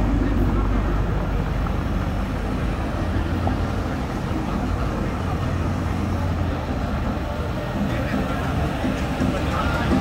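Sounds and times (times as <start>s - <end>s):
cars rolling past: 0.0s - 10.0s
faint voices: 0.0s - 10.0s.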